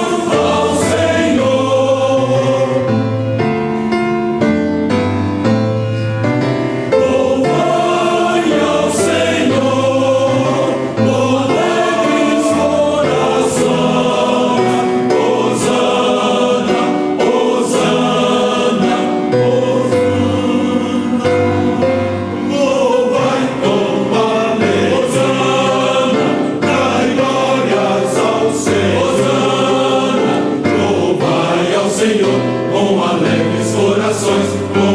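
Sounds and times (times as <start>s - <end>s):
choir singing religious music: 0.0s - 34.9s.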